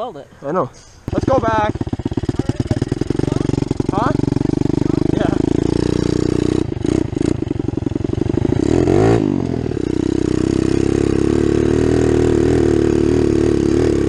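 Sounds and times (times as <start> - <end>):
motorbike engine revving: 1.1 - 14.0.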